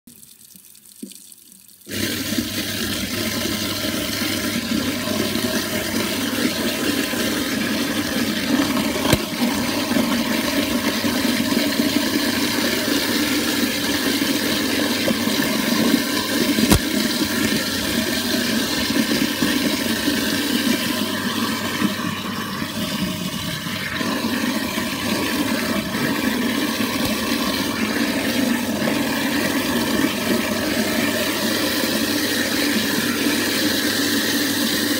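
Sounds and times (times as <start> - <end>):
tap water pouring: 0.1 - 34.9
garbage disposal grinding: 1.9 - 33.7.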